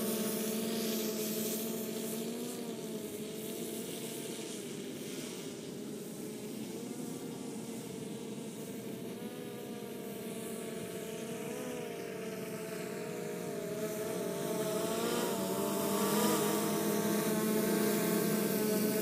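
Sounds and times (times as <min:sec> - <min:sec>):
quadcopter propellers buzzing: 0:00.0 - 0:19.0.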